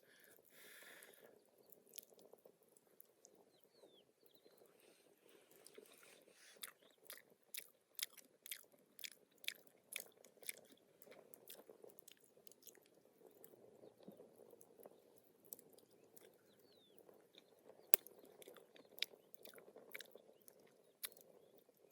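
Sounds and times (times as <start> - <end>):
person chewing crunchy food: 1.6 - 3.4, 5.5 - 21.9.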